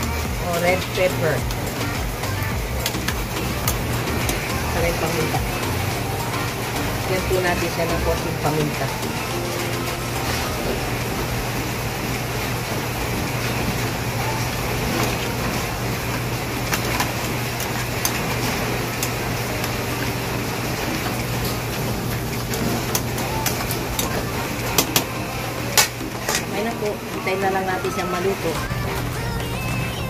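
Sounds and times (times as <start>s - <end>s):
mechanical hum with hiss: 0.0s - 30.0s.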